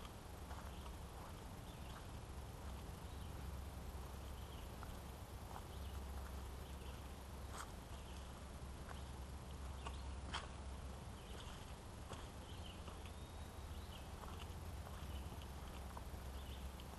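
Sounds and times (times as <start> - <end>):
footsteps on dirt trail: 0.0 - 16.9.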